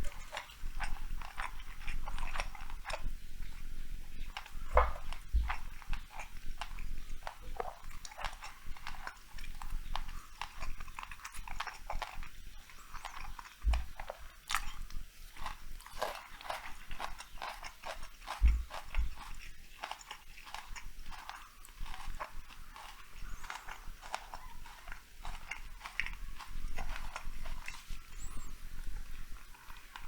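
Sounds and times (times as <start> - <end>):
cat chewing wetly: 0.0 - 30.0.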